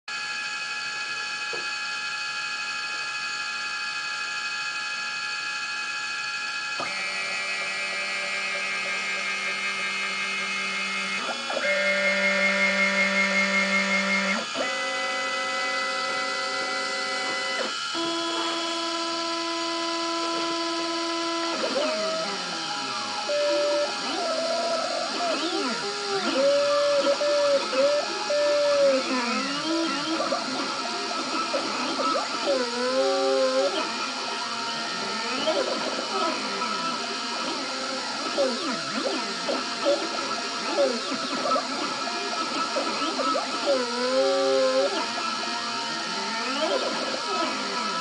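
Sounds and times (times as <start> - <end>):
stepper motors whining: 0.2 - 48.0
spindle humming: 6.8 - 48.0.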